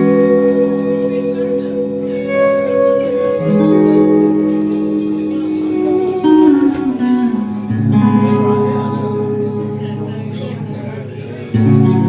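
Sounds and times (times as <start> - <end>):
live band music led by guitar: 0.0 - 12.0.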